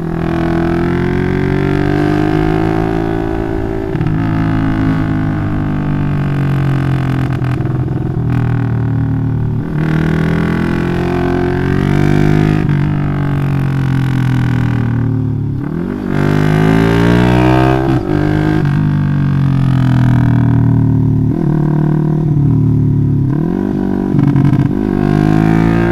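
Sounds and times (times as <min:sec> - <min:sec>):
motorcycle engine under load: 0:00.0 - 0:25.9.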